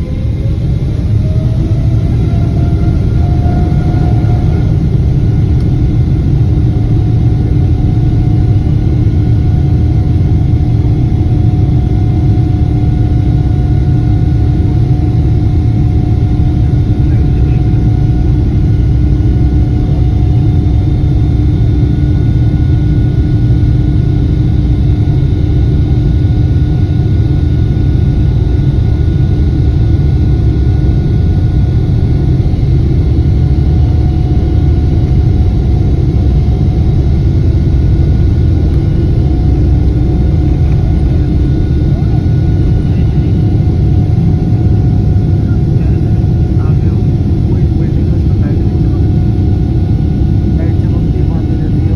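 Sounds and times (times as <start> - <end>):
jet engine deep rumble: 0.0 - 51.9
whining fan tones: 0.0 - 51.9.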